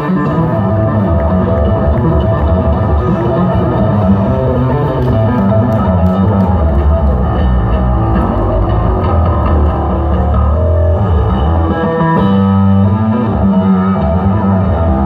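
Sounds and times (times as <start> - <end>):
electric bass guitar playing: 0.0 - 15.0.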